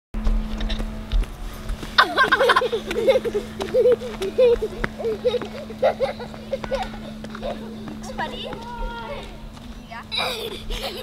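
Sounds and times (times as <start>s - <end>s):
children's running footsteps on asphalt: 0.2s - 11.0s
steady low hum: 0.2s - 11.0s.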